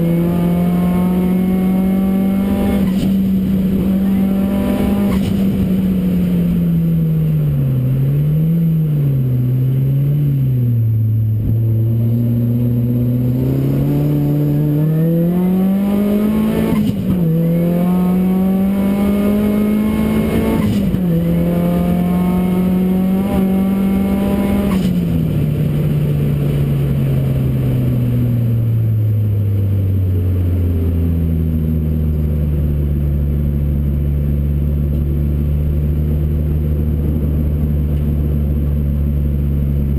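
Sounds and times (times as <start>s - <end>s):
car engine accelerating with gear changes: 0.0s - 39.9s.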